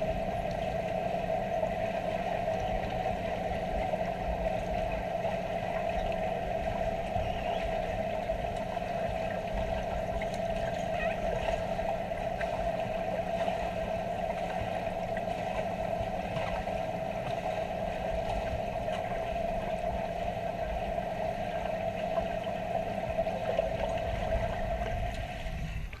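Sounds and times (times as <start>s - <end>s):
underwater hum: 0.0s - 26.0s.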